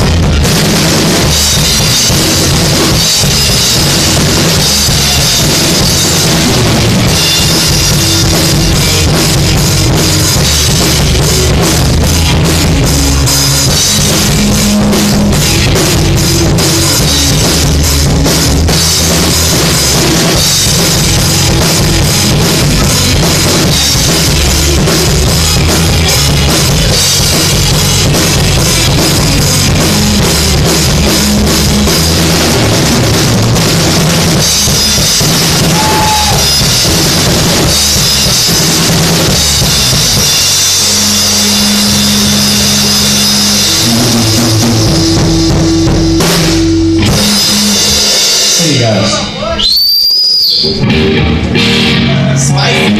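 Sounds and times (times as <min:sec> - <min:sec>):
bass drum: 0:00.0 - 0:49.5
loud rock music: 0:00.0 - 0:52.9.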